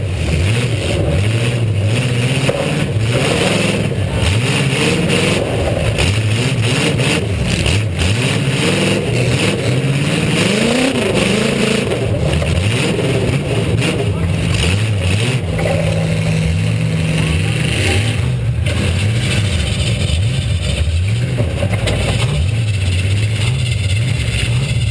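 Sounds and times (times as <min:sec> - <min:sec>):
car engine revving: 0:00.0 - 0:24.9.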